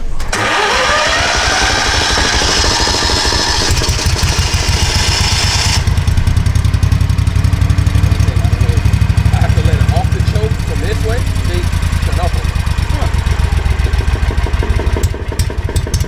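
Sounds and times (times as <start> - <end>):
engine running steadily: 0.3 - 16.0.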